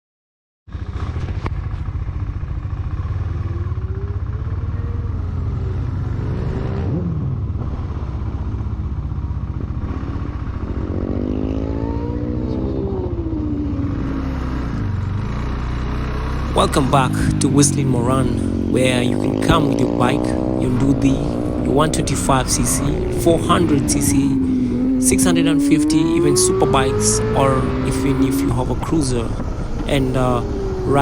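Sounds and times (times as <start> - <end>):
motorcycle engine revving: 0.7 - 31.0
wind rumble: 0.7 - 31.0.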